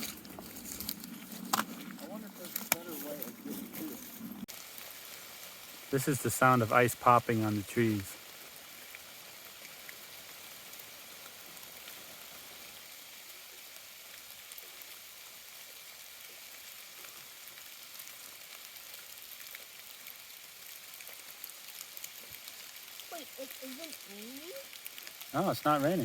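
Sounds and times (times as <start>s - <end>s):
ice-coated branches crackling: 0.0s - 26.0s.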